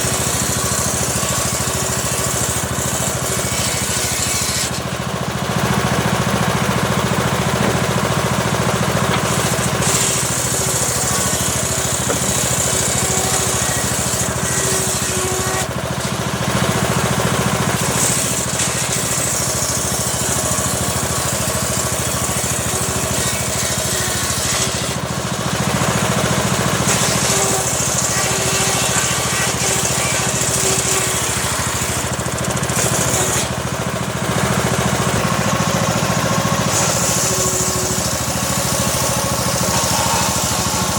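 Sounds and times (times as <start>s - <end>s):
power unit droning: 0.0s - 24.8s, 25.6s - 40.9s
saw blade cutting wood: 0.0s - 40.9s.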